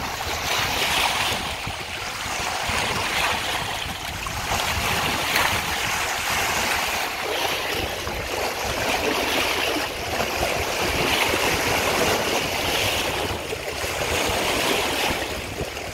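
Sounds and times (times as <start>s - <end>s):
sea waves splashing on pilings: 0.0s - 15.9s.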